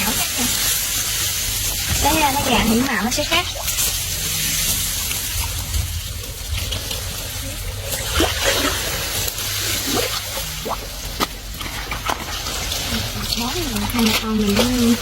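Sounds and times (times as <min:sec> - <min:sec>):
low steady rumble: 0:00.0 - 0:15.0
water splashing and trickling: 0:00.0 - 0:15.0.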